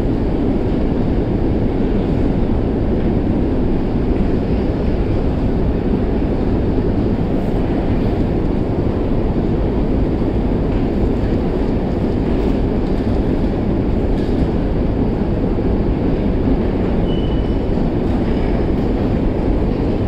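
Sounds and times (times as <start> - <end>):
escalator rumble and hum: 0.0 - 20.0.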